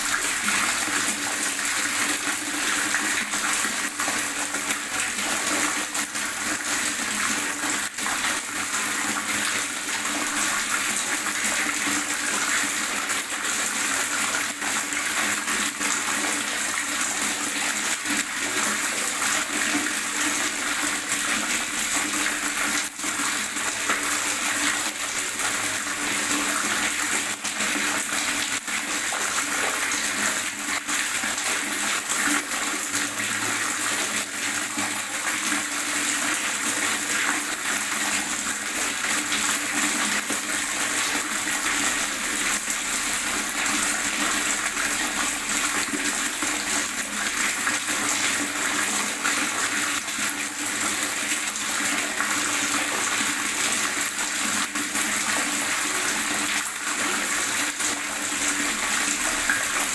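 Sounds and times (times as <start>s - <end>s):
running water gurgling: 0.0s - 59.9s.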